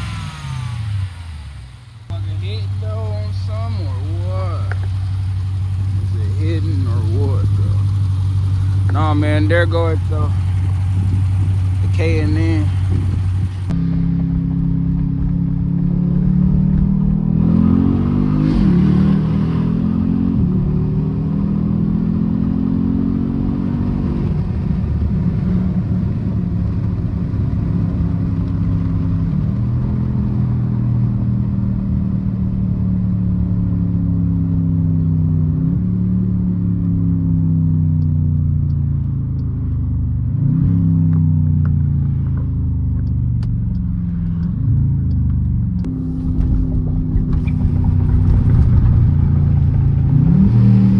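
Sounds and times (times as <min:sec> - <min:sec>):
car engine revving through gears: 0:00.0 - 0:13.8, 0:14.4 - 0:26.4, 0:35.4 - 0:50.9.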